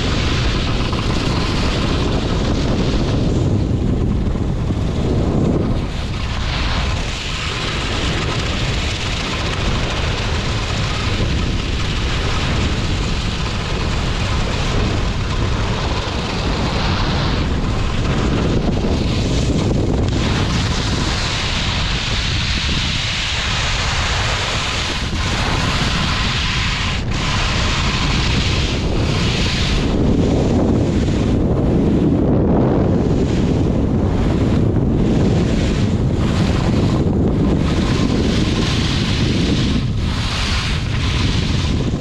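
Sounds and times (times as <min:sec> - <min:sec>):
skis carving across snow: 0:00.0 - 0:42.0
wind buffeting microphone: 0:00.0 - 0:42.0.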